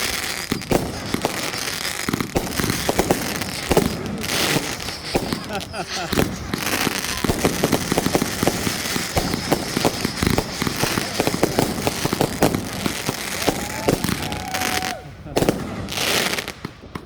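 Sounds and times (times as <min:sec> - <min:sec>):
firework whistling: 0:00.0 - 0:16.8
fireworks bangs and crackling: 0:00.0 - 0:17.0.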